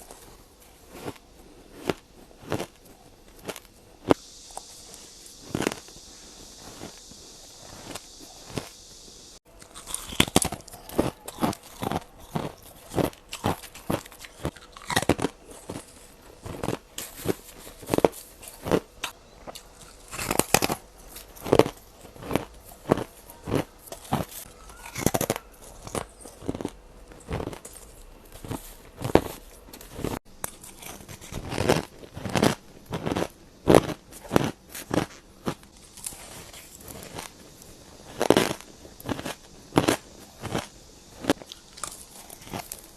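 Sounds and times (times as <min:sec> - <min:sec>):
ice crunched between teeth: 0:00.9 - 0:04.2, 0:09.6 - 0:42.9.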